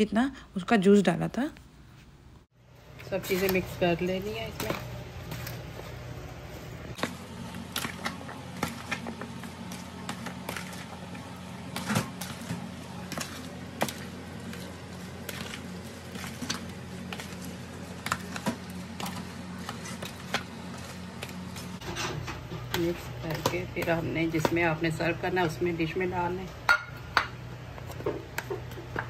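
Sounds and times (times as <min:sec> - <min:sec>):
steady low hum: 0:01.6 - 0:29.0.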